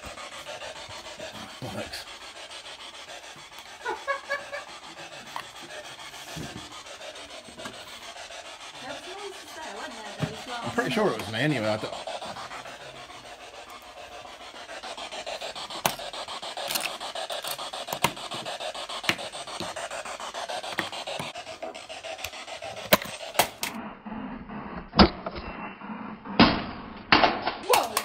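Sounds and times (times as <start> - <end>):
screw thread rasping: 0.0 - 23.8.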